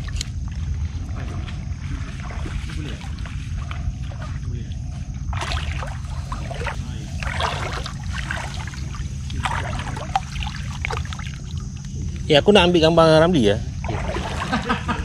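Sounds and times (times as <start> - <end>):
shallow water splashing: 0.0 - 12.3, 13.4 - 15.0
low rumble: 0.0 - 15.0.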